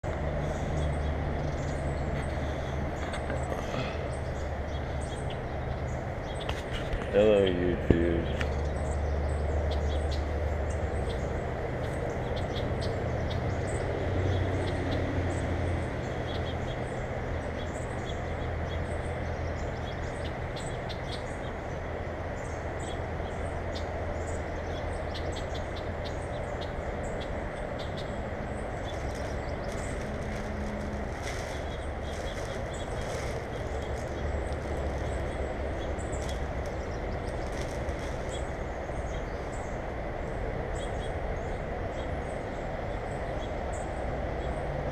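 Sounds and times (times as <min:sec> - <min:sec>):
small birds chirping: 0:00.0 - 0:44.8
low rumbling background hum: 0:00.0 - 0:44.9.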